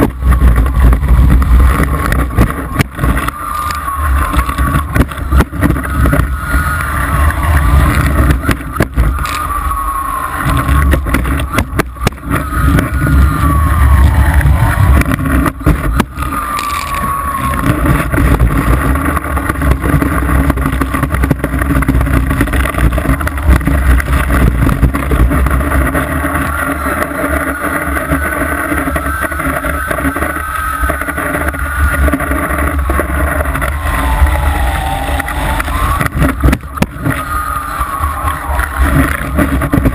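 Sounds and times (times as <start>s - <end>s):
motorboat engine whine: 0.0s - 39.9s
rushing water: 0.0s - 39.9s
wind buffeting camera: 0.0s - 39.9s.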